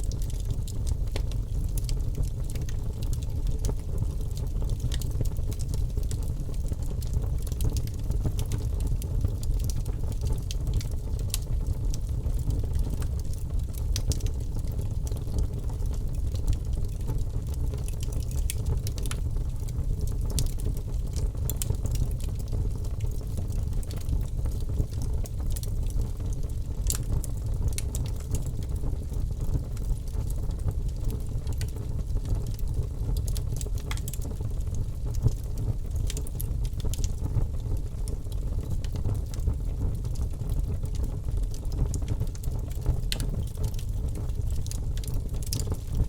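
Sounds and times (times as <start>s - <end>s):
fire crackling and popping: 0.0s - 46.0s
fire rumbling: 0.0s - 46.0s.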